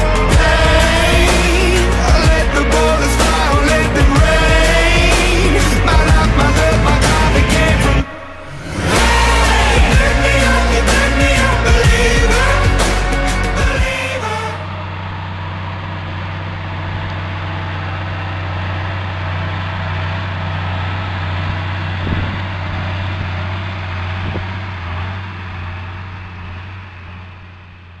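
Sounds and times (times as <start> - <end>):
tractor diesel engine droning: 0.0 - 28.0.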